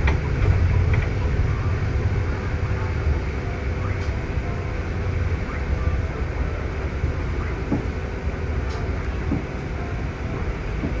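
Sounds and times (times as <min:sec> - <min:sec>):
bus engine and tyre rumble: 0:00.0 - 0:11.0.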